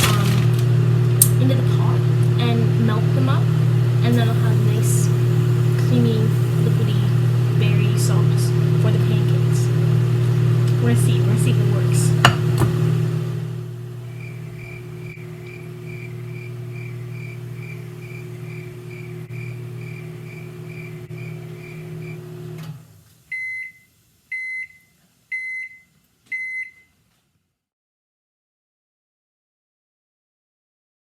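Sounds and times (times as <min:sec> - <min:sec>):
microwave beeping: 0:00.0 - 0:26.9
microwave oven humming: 0:00.0 - 0:26.9.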